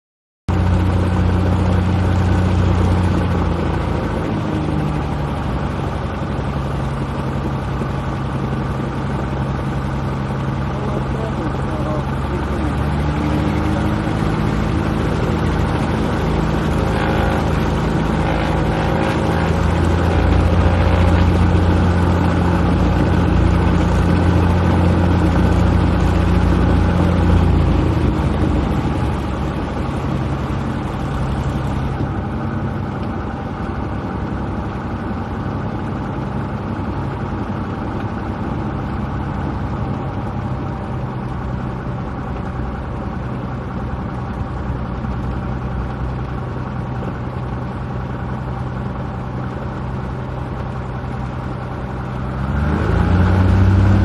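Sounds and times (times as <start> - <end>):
light airplane engine drone: 0.5 - 54.0.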